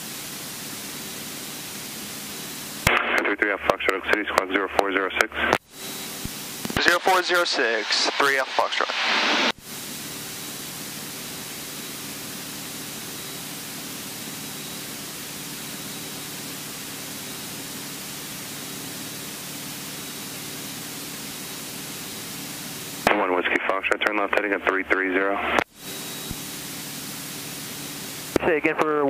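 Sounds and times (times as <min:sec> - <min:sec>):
propeller engine drone: 0:00.0 - 0:29.0.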